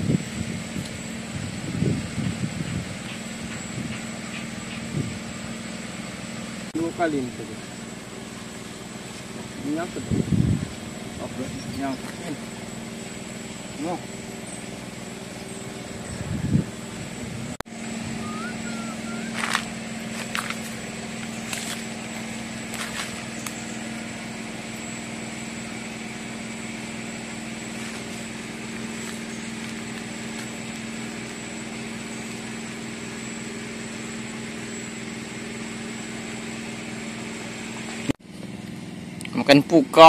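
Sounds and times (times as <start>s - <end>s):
small engine droning: 0.0s - 40.0s.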